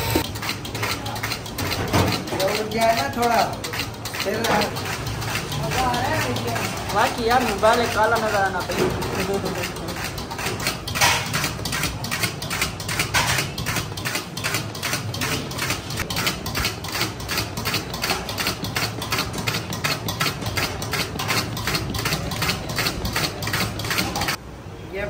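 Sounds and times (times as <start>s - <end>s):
metal cooking utensils clattering: 0.2s - 24.4s.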